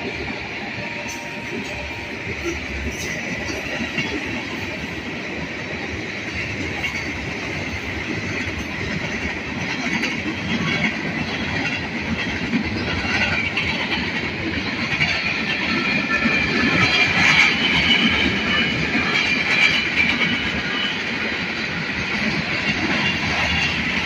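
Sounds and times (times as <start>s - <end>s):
freight train rolling past: 0.0s - 24.0s
steel wheels rattling on rail: 0.0s - 24.0s.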